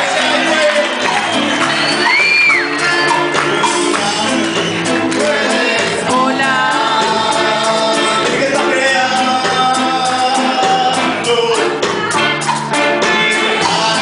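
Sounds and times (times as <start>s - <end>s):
music with singing: 0.0s - 14.0s.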